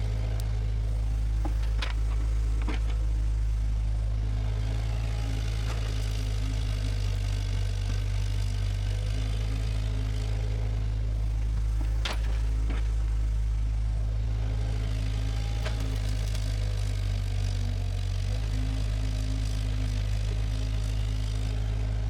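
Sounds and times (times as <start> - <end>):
bulldozer diesel engine drone: 0.0 - 22.0.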